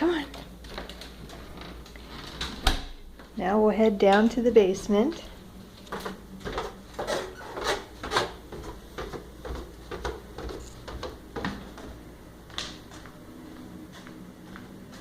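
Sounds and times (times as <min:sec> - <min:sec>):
footsteps down stairs: 0:00.0 - 0:02.4, 0:04.1 - 0:15.0.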